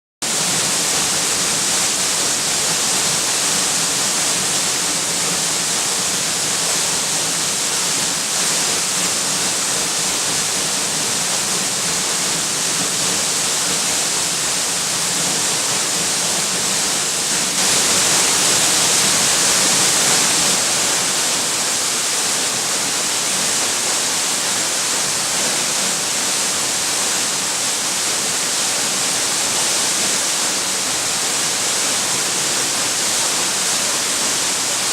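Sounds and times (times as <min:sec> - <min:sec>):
waterfall pouring: 0:00.2 - 0:34.9.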